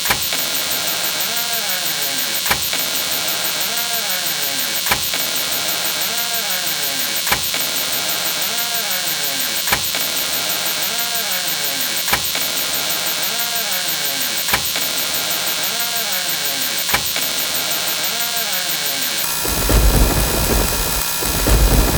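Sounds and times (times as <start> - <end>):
steady hiss: 0.4 - 21.9.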